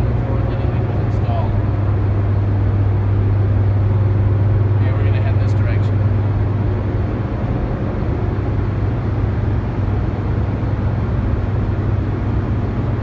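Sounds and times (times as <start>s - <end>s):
generators humming: 0.0s - 13.0s
rush of machinery noise: 0.0s - 13.0s.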